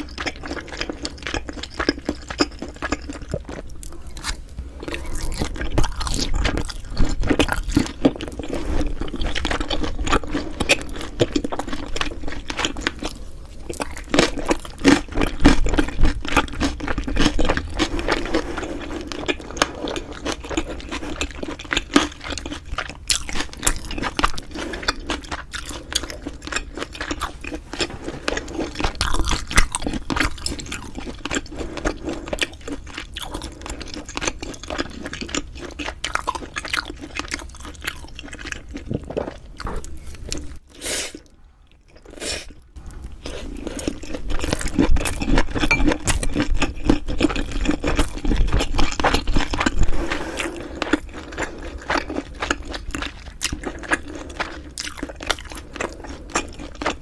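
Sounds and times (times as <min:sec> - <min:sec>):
chewing and mouth sounds: 0:00.0 - 0:57.0.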